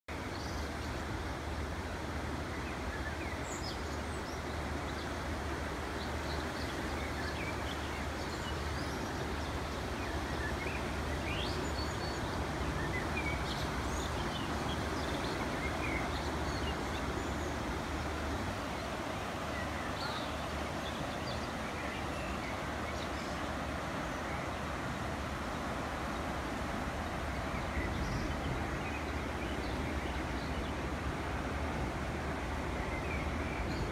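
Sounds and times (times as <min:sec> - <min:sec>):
birdsong chirps: 0:00.1 - 0:33.9
river rushing: 0:00.1 - 0:33.9.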